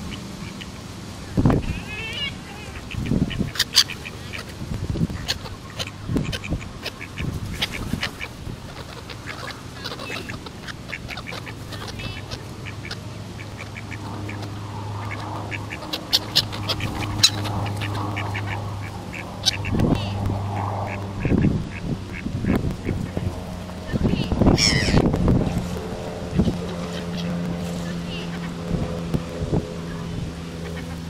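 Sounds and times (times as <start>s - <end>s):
ducks quacking: 0.0s - 31.0s
steady low hum: 0.0s - 31.0s.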